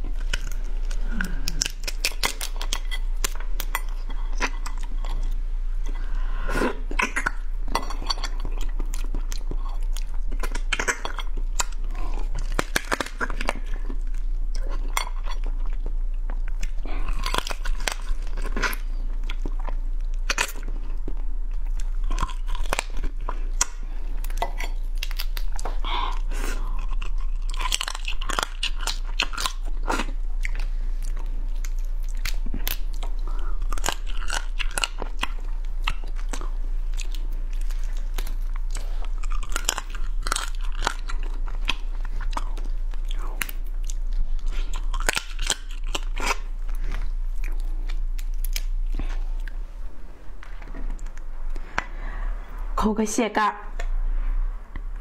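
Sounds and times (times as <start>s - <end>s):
crunching and chewing crab shell: 0.0s - 49.6s
low electrical hum: 0.0s - 55.0s.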